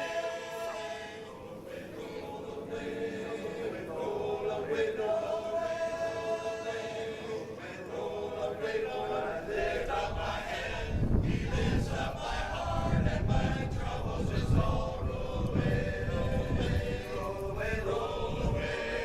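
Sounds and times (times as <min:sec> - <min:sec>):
vocal group singing held chords: 0:00.0 - 0:19.0.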